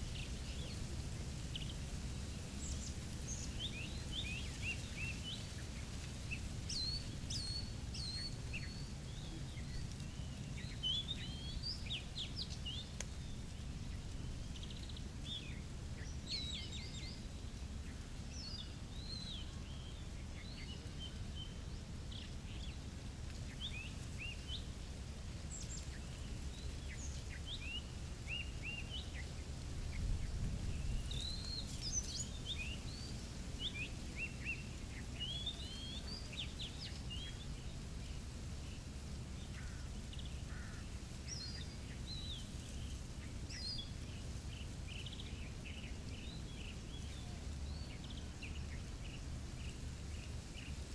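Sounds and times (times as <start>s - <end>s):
low steady rumble: 0.0s - 50.9s.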